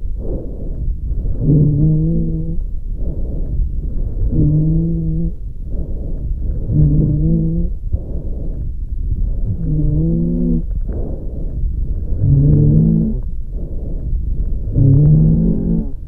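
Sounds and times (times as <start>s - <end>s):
low rumble of breath noise: 0.0s - 16.0s.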